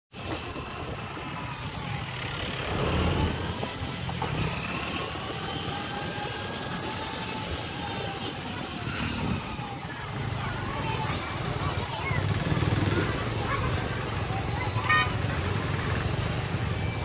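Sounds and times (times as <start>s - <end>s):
rumble of road vehicles: 0.1s - 17.0s.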